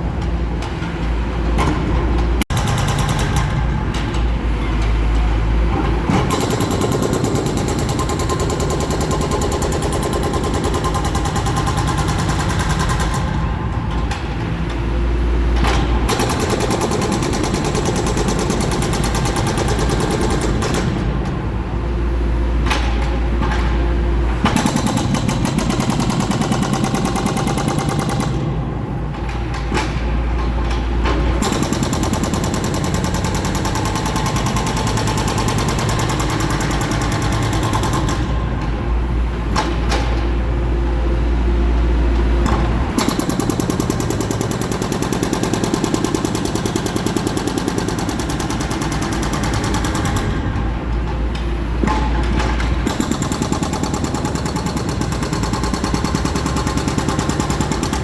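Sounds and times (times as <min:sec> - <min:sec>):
hydraulic hammer pounding concrete: 0:01.6 - 0:40.3, 0:42.3 - 0:58.0.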